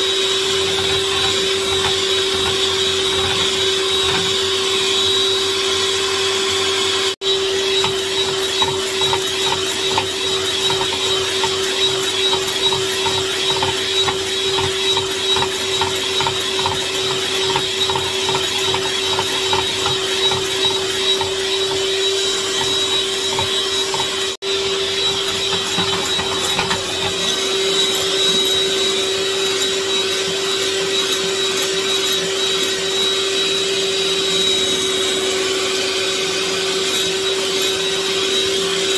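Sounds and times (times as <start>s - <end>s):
electric mixer whirring: 0.0s - 38.9s.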